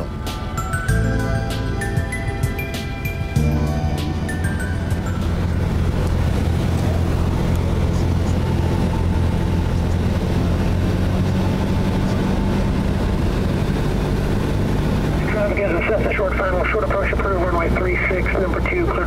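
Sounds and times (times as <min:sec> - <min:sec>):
rushing air: 0:00.0 - 0:15.4
propeller plane engine droning: 0:00.0 - 0:19.0.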